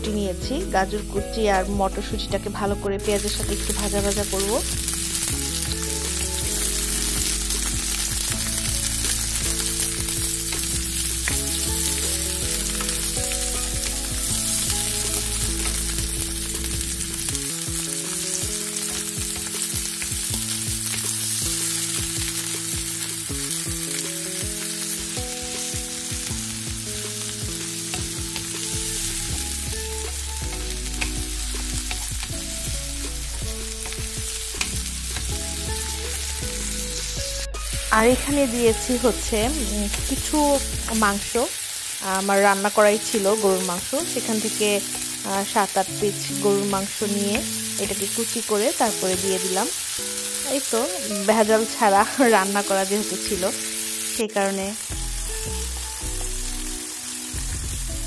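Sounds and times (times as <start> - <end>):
soft background music: 0.0 - 58.0
vegetables sizzling in oil: 0.0 - 58.0.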